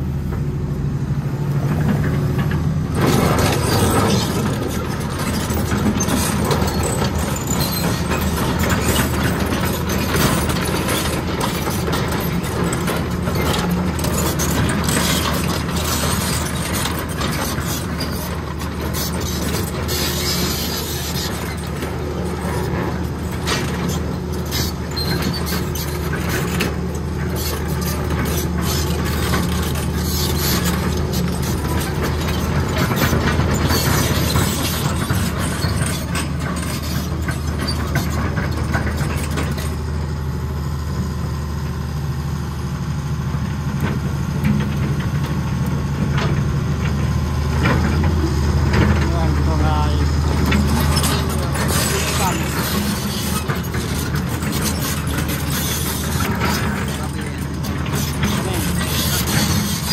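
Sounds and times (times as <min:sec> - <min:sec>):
excavator diesel engine idling: 0:00.0 - 0:59.9.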